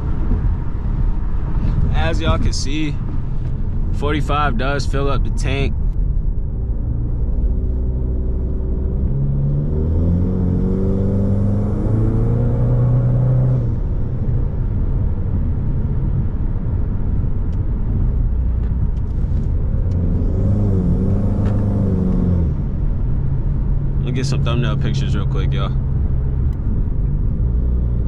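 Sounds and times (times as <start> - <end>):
car engine and road drone: 0.0 - 28.0.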